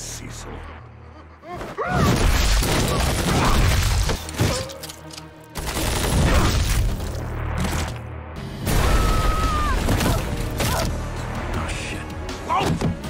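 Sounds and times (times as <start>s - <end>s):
action music: 2.1s - 13.0s.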